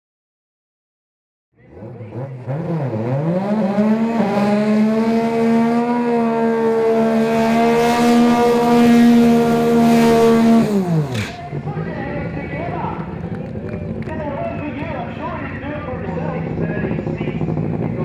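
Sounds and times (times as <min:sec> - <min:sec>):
car engine revving: 0:01.6 - 0:18.0.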